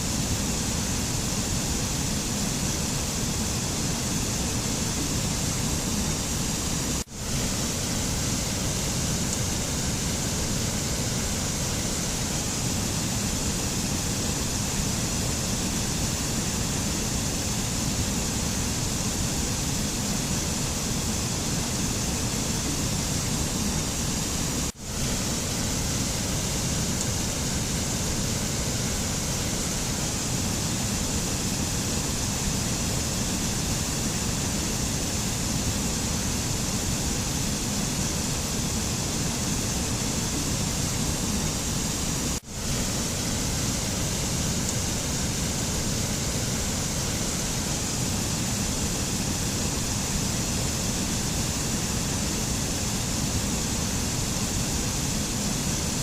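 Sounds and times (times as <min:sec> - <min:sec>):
steady rushing mountain ambience: 0:00.0 - 0:56.0.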